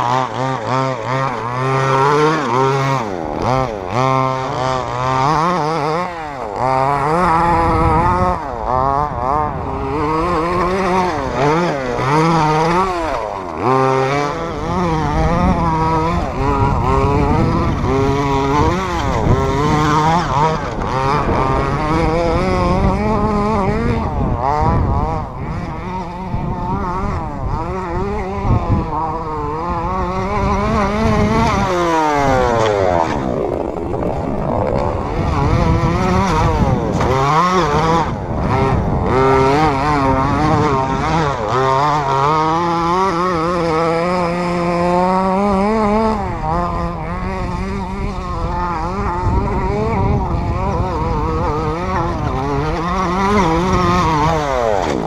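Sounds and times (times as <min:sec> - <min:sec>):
rc buggy engine revving: 0:00.0 - 0:55.0.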